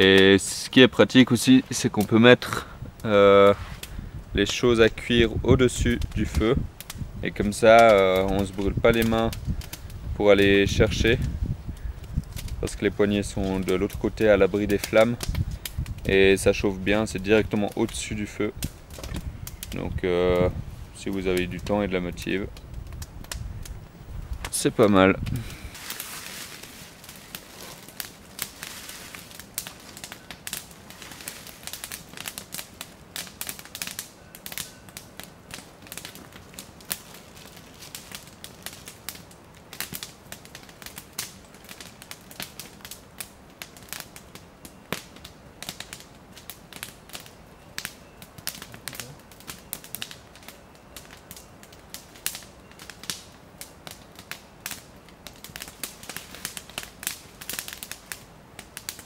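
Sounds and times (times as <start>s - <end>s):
campfire crackling and popping: 0.0s - 59.0s
low fire hiss: 0.0s - 59.0s.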